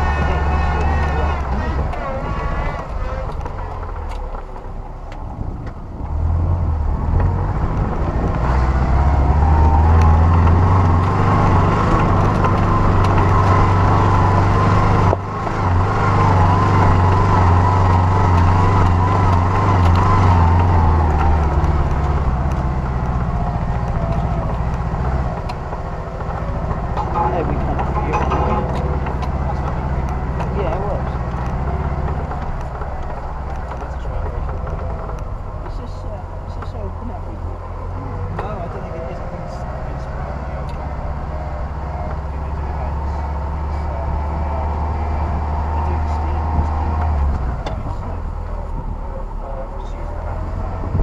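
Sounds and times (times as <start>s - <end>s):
off-road vehicle engine drone: 0.0s - 51.0s.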